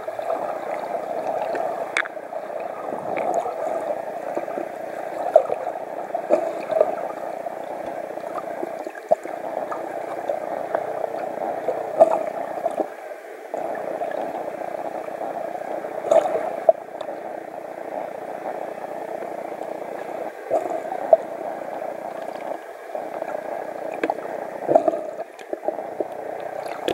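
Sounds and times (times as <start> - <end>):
muffled underwater water rush: 0.0 - 26.9.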